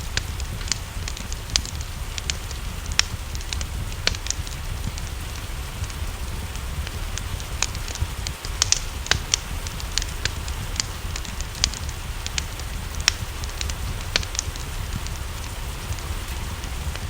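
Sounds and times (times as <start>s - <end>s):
low rumble: 0.0s - 17.0s
rain hissing: 0.0s - 17.0s
wood fire crackling: 0.0s - 17.0s.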